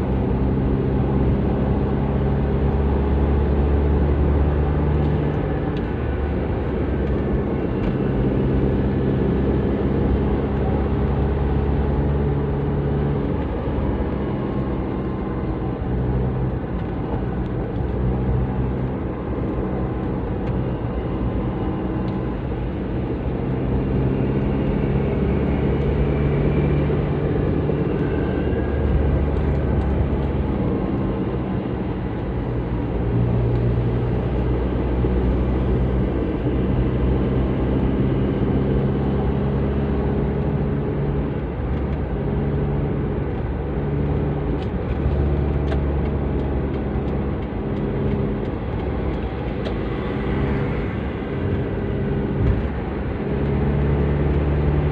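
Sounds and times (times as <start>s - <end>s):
car engine and exhaust: 0.0s - 54.9s.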